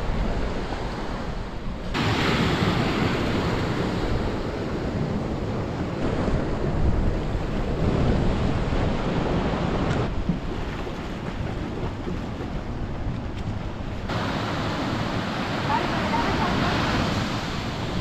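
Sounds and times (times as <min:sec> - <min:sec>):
wind noise on microphone: 0:00.0 - 0:15.5
surf washing onto shore: 0:00.0 - 0:18.0.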